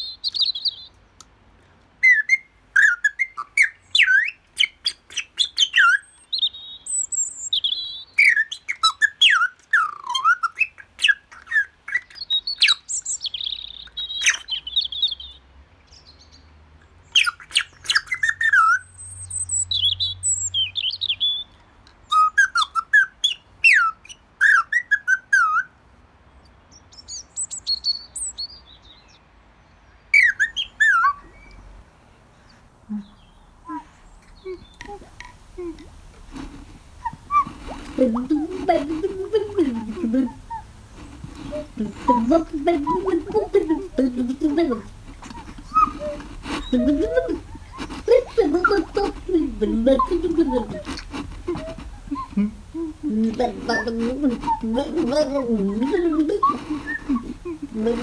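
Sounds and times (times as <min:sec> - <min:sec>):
songbirds singing: 0:00.0 - 0:01.4, 0:02.0 - 0:58.0.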